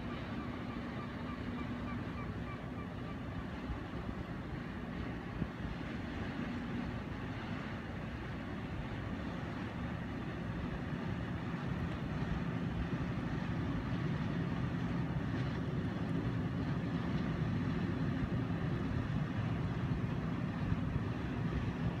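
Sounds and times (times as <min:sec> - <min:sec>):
ship engines droning: 0:00.0 - 0:22.0.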